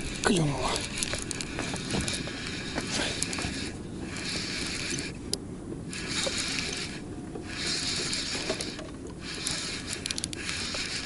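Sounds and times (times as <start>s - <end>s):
fishing reel being cranked: 0.0s - 11.0s.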